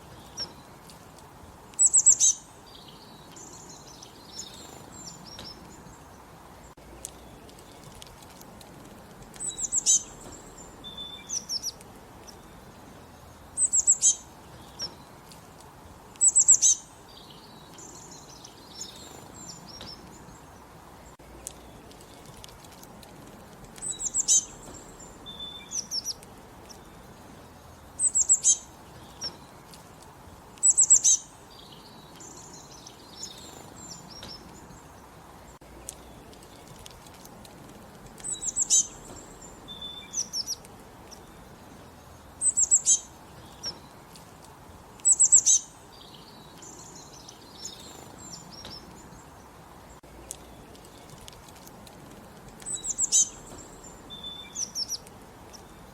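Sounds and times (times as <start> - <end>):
faint background hiss: 0.0 - 55.9
songbirds chirping: 0.0 - 55.9.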